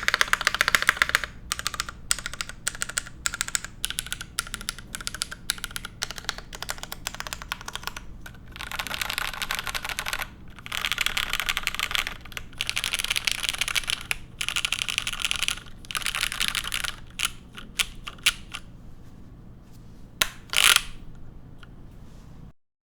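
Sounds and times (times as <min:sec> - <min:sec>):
loud keyboard clack: 0:00.0 - 0:18.6
mechanical keyboard typing: 0:00.0 - 0:18.7, 0:20.2 - 0:21.0.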